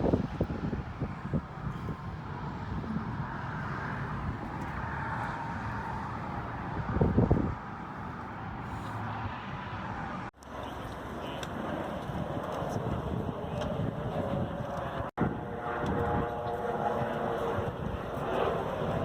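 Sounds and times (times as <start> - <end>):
vehicle road noise rumble: 0.0 - 19.0.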